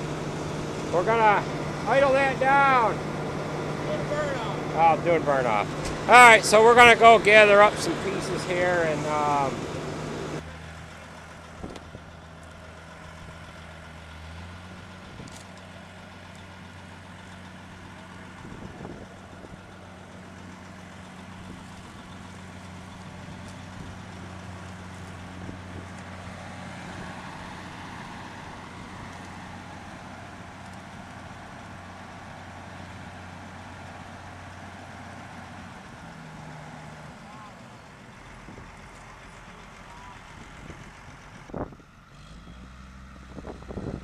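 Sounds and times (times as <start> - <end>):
tractor diesel engine idling: 0.0 - 44.0.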